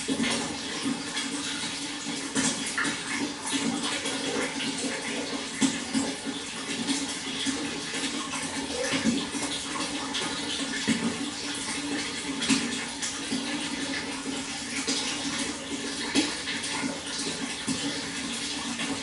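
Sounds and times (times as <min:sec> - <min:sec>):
small water splashes: 0:00.0 - 0:19.0
water flowing: 0:00.0 - 0:19.0.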